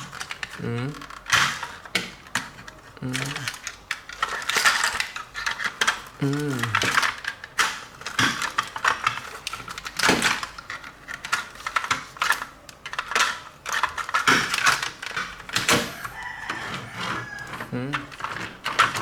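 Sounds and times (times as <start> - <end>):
plastic toy parts clicking: 0.0 - 19.0.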